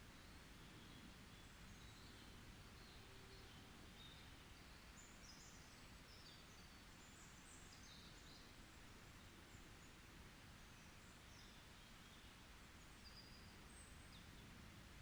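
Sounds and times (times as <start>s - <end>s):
steady soft hiss: 0.0s - 15.0s.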